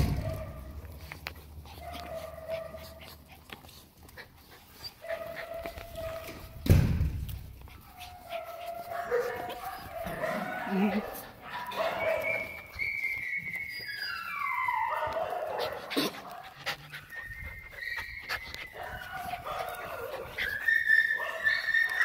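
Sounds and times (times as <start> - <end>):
young dogs whining: 0.0 - 6.6, 7.6 - 22.0.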